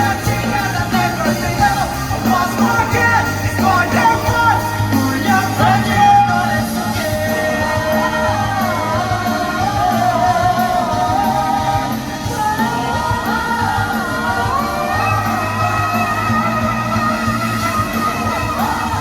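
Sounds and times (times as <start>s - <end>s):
live pop-rock band music: 0.0s - 19.0s
singer holding long notes: 0.0s - 19.0s.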